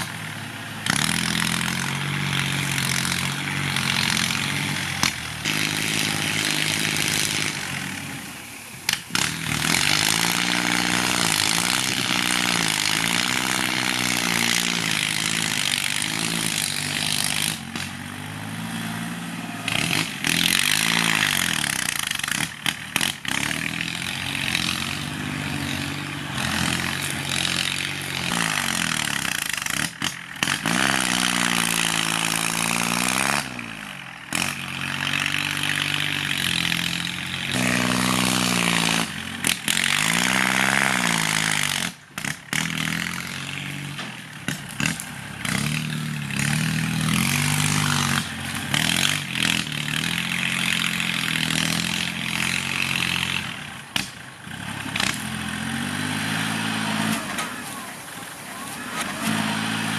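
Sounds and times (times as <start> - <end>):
tractor diesel engine working hard: 0.0 - 59.9.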